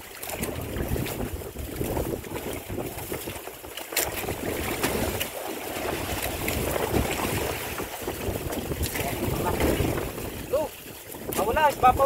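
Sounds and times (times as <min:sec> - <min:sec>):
waves lapping at boat: 0:00.0 - 0:12.0
wind buffeting microphone: 0:00.0 - 0:12.0.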